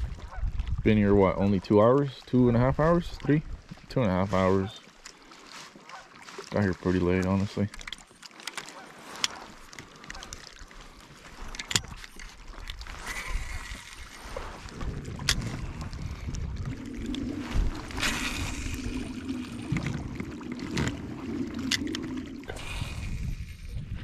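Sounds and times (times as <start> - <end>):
water sloshing around a kayak: 0.0 - 24.0.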